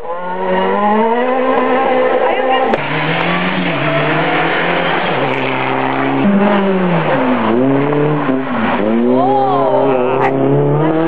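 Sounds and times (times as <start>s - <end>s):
rally car engines running hard: 0.0s - 11.0s
rally car passing by: 0.0s - 11.0s.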